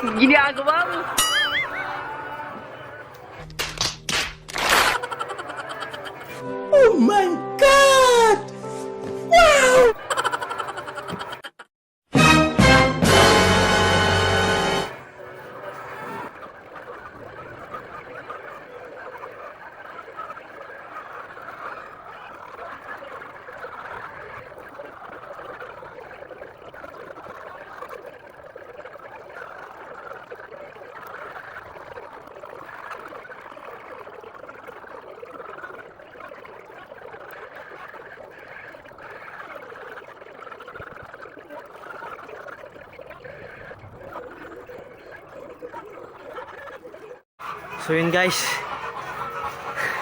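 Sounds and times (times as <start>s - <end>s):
hens clucking: 0.0s - 3.4s, 4.7s - 6.5s, 10.0s - 11.6s, 14.8s - 50.0s.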